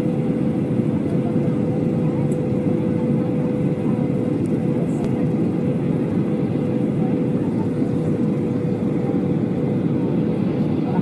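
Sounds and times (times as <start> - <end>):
constant hum: 0.0 - 11.0
jet engine and airflow roar: 0.0 - 11.0.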